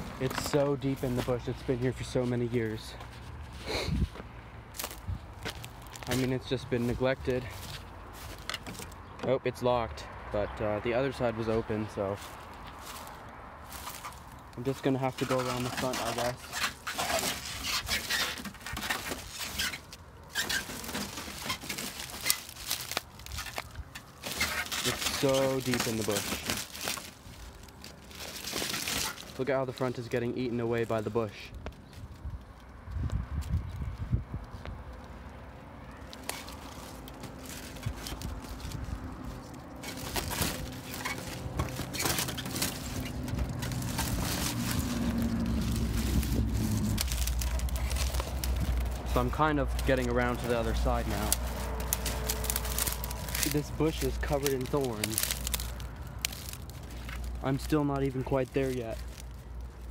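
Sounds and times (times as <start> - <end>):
bush leaves rustling and crackling: 0.0 - 9.1, 11.1 - 59.9.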